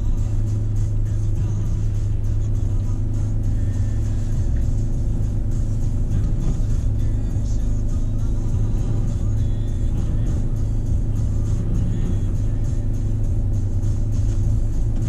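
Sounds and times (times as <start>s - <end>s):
car engine and road rumble: 0.0s - 15.0s
music playing: 0.0s - 15.0s.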